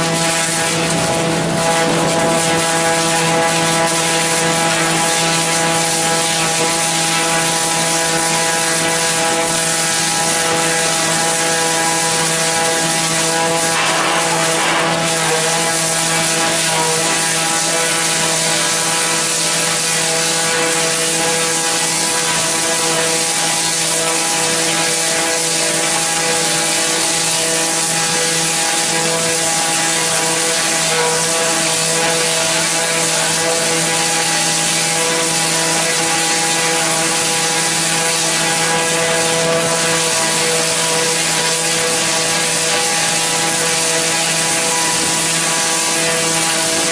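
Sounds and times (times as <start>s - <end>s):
debarking machine droning: 0.0s - 46.9s.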